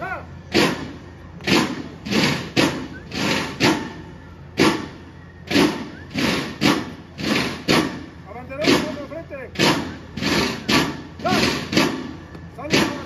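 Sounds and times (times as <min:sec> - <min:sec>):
marching drum beating: 0:00.5 - 0:04.0, 0:04.6 - 0:13.0.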